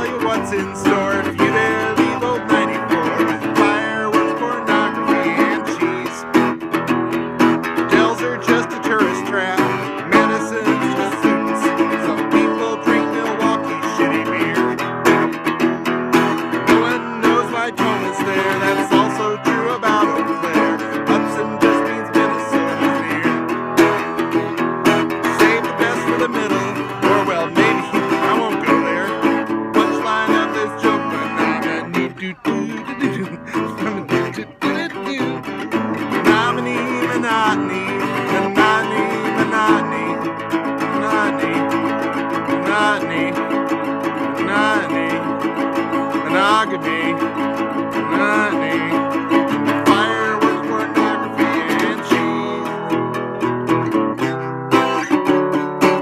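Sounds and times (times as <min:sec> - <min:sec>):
guitar picking and strumming: 0:00.0 - 0:56.0.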